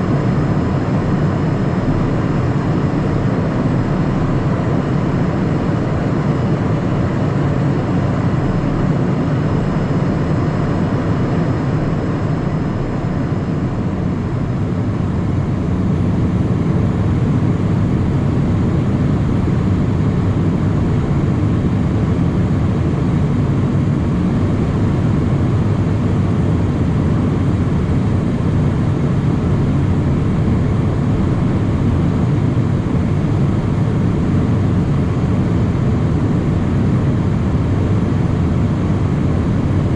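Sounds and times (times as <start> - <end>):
jet cabin airflow and engine rush: 0.0 - 39.9.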